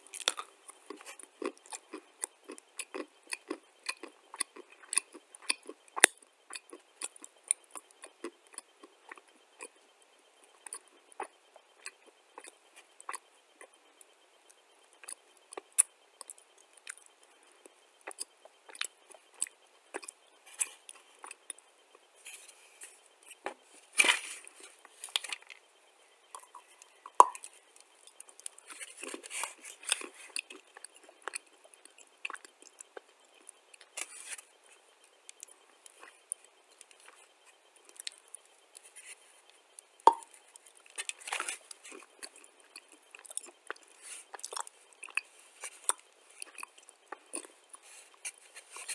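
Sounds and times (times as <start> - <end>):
chewing crunchy clay: 0.0 - 9.8, 10.4 - 13.8, 14.5 - 48.9.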